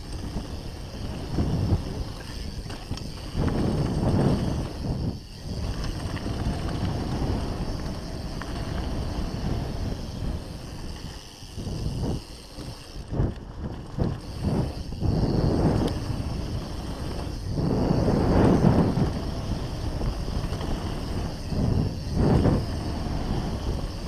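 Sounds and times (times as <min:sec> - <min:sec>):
bike tyres rolling on dirt: 0:00.0 - 0:24.0
wind buffeting microphone: 0:00.0 - 0:24.0.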